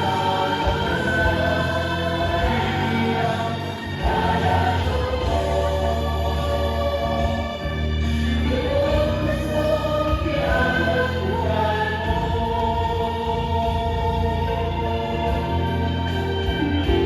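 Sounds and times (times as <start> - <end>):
slow choral singing: 0.0 - 17.0.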